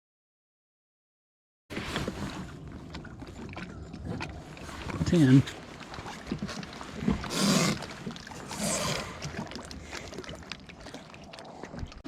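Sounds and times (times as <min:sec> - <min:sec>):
water splashing against kayak: 0:01.7 - 0:12.0.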